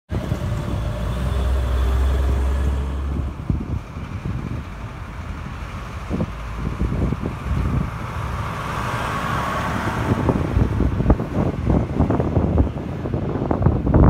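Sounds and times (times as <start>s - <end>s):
heavy engine low drone: 0.1s - 14.0s
wind buffeting microphone: 0.1s - 14.0s.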